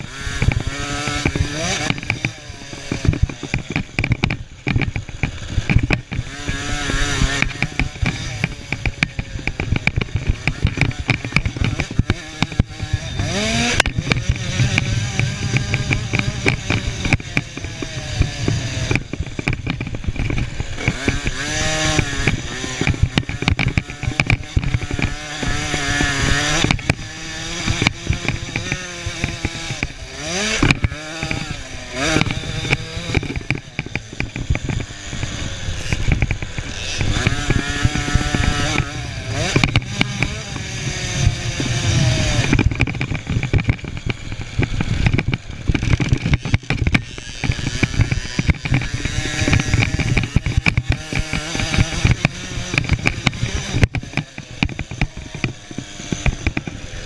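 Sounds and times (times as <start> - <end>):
two-stroke motocross engines revving: 0.0 - 57.0.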